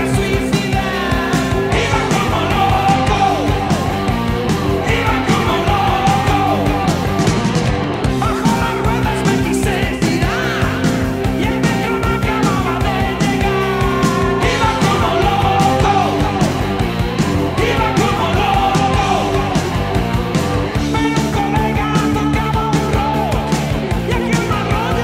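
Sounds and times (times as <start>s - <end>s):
rock song with singing: 0.0s - 25.0s
steady drum beat: 0.0s - 25.0s.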